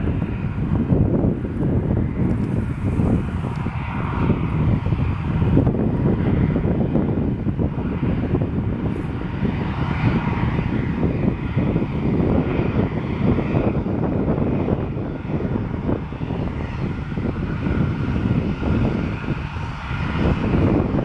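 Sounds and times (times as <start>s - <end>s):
jet engines rumbling with whine: 0.0s - 21.0s.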